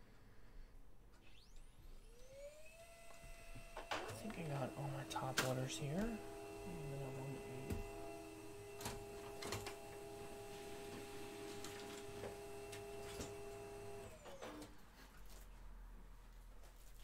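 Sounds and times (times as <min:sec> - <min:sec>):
faint motor whine: 0:01.2 - 0:15.4.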